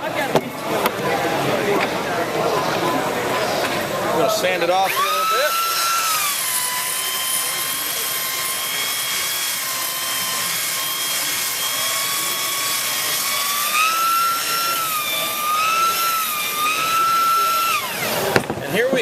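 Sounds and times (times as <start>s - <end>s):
power tool motor whining: 2.6s - 19.0s.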